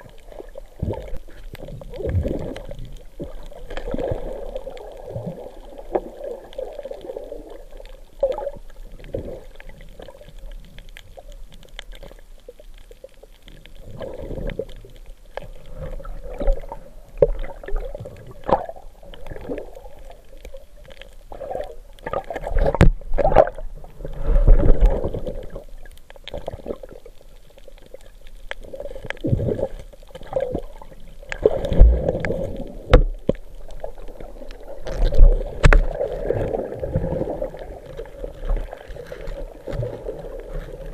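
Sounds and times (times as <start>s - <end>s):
underwater bubbling and swishing: 0.0s - 40.9s.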